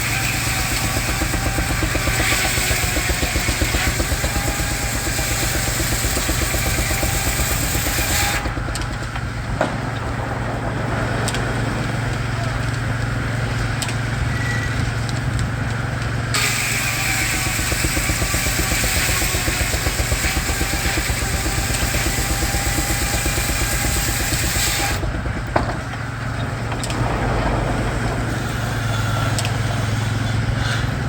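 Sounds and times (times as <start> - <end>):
steam engine exhaust beat: 0.0 - 12.1, 16.4 - 31.0.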